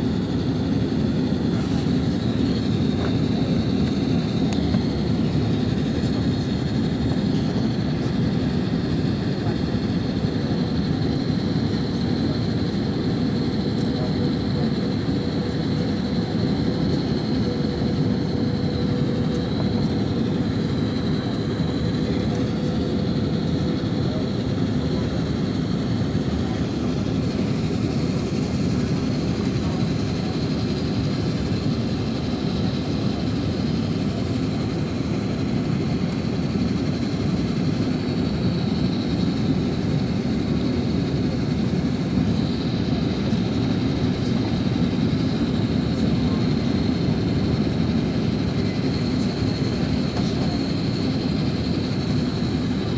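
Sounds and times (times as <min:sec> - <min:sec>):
airplane cabin low roar: 0:00.0 - 0:52.9
faint high whine: 0:00.0 - 0:52.9.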